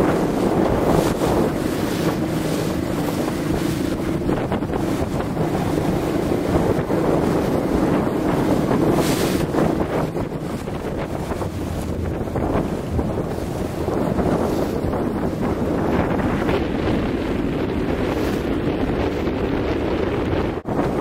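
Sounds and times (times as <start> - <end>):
waves sloshing: 0.0 - 21.0
wind buffeting microphone: 0.0 - 21.0.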